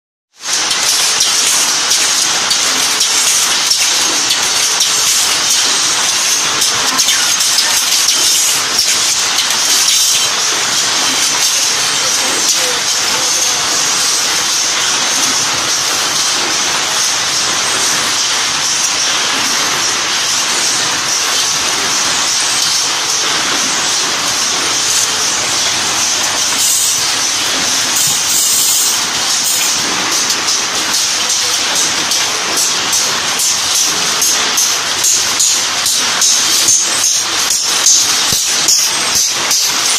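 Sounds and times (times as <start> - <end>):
assembly machine metallic clatter: 0.4 - 39.9.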